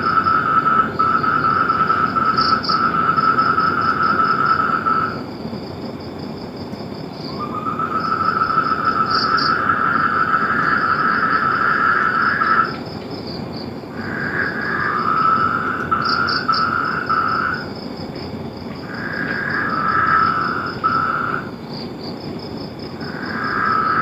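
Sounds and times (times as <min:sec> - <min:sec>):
frogs trilling: 0:00.0 - 0:05.4, 0:07.1 - 0:24.0
insects chirping: 0:00.0 - 0:24.0.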